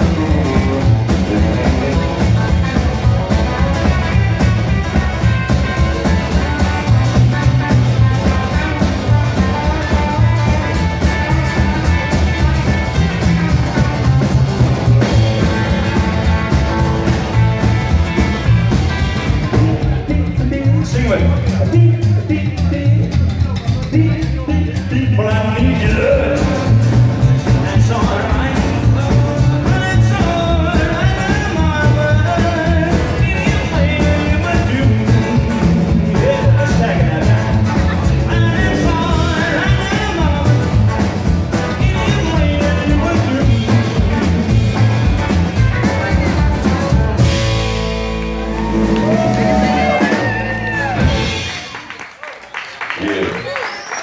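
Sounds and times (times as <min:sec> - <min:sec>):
electric guitar: 0:00.0 - 0:52.0
upright bass: 0:00.0 - 0:52.0
drum kit: 0:00.0 - 0:52.2.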